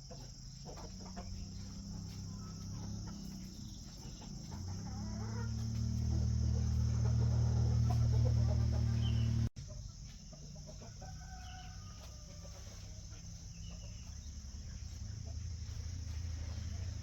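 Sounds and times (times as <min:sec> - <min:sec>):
chickens clucking: 0:00.0 - 0:17.0
steady low hum: 0:00.0 - 0:17.0.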